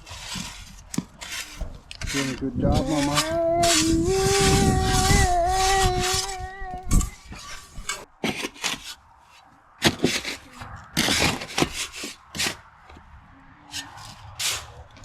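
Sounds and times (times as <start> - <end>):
shovel scraping sand and gravel: 0.0 - 12.9, 13.6 - 15.0.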